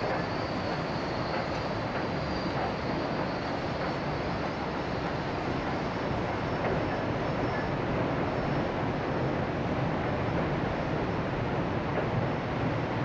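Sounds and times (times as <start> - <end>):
railcars rumbling across bridge: 0.0 - 13.0.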